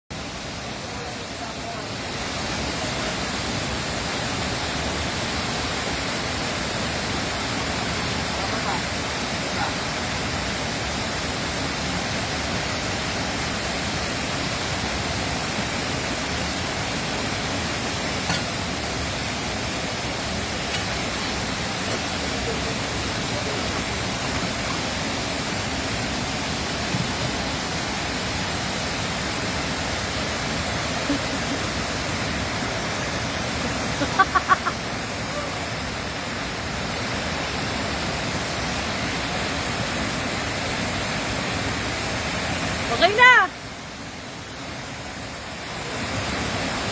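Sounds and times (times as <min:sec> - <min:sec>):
running water rushing: 0:00.1 - 0:46.9.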